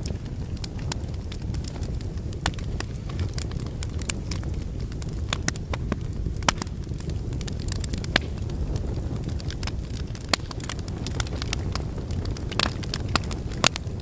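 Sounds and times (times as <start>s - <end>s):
fire flames rumbling: 0.0s - 14.0s
logs crackling and popping: 0.0s - 14.0s.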